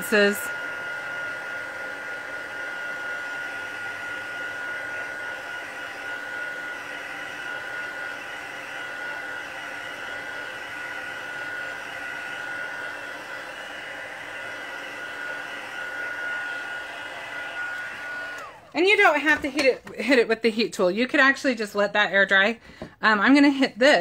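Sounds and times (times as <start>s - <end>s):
heat tool blowing hot air: 0.0s - 19.4s.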